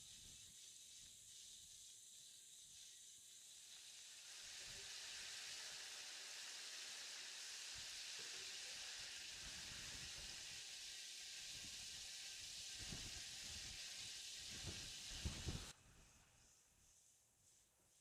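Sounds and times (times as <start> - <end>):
food sizzling in hot oil: 0.0 - 15.7.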